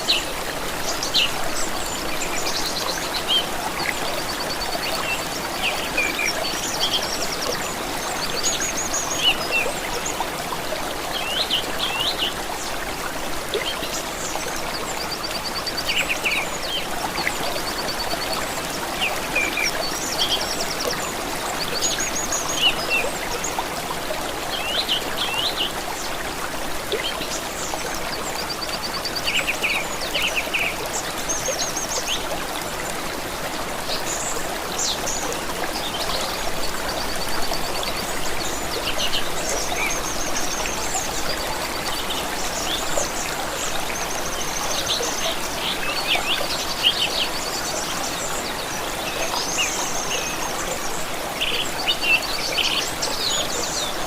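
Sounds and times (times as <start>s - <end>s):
small stream running: 0.0s - 54.0s.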